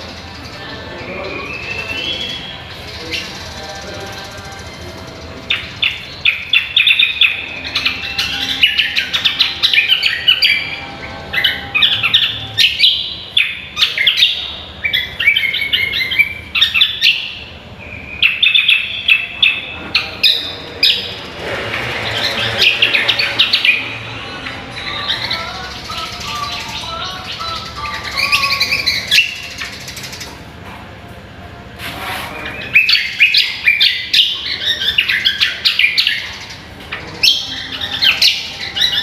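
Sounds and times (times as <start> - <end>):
bird singing chirps and trills: 0.0 - 30.6, 32.3 - 39.0.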